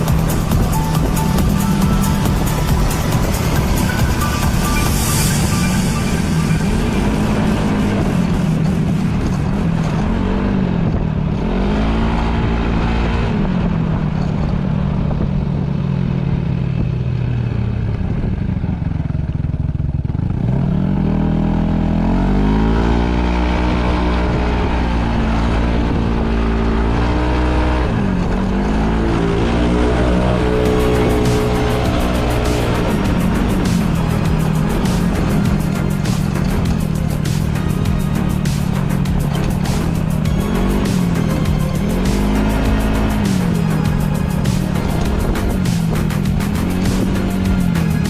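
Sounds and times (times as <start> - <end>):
scooter engine while riding: 0.0 - 48.0.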